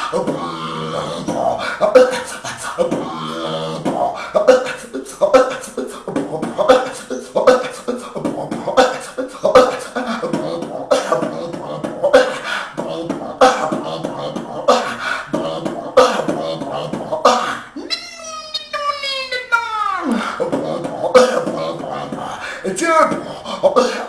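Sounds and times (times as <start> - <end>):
held pitched vocal tone: 0.0 - 24.0
person beatboxing: 0.0 - 24.0.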